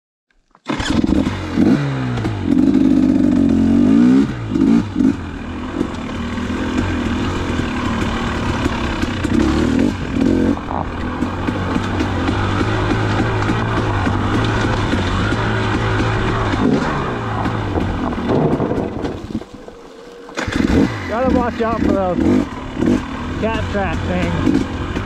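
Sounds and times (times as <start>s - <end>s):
two-stroke dirt bike engine revving: 0.7s - 25.0s.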